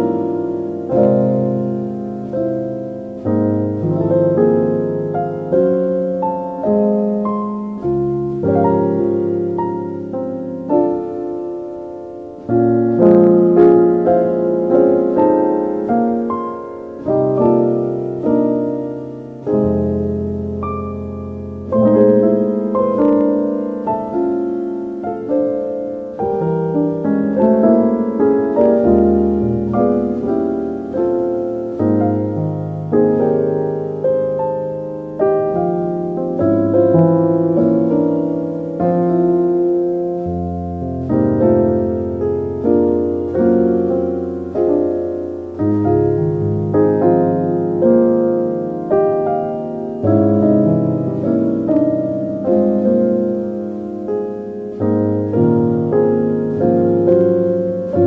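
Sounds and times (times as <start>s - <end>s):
soft solo piano music: 0.0s - 58.0s.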